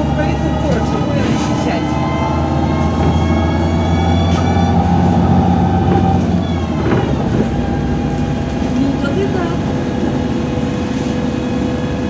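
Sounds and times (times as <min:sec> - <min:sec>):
bus drivetrain whine: 0:00.0 - 0:12.0
low engine drone: 0:00.0 - 0:12.0.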